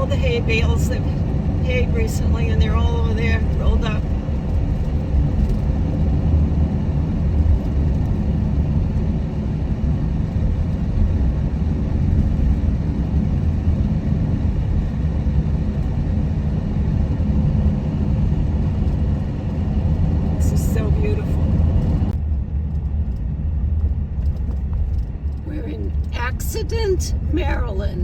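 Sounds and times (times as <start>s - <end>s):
engine noise: 0.0s - 28.0s
road rumble inside vehicle: 0.0s - 28.0s.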